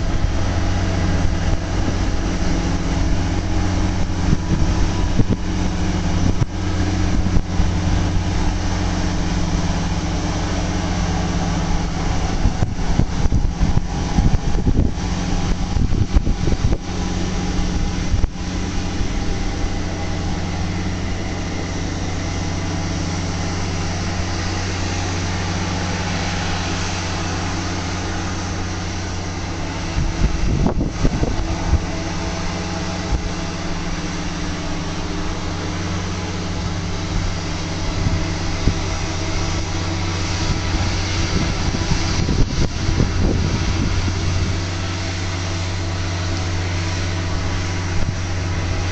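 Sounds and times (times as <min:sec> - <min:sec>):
diesel engine running: 0:00.0 - 0:48.9
rough rumbling surges: 0:00.0 - 0:48.9.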